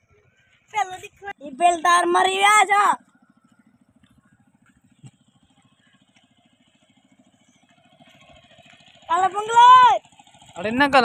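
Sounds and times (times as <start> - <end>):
small boat engine puttering: 0.0 - 11.0.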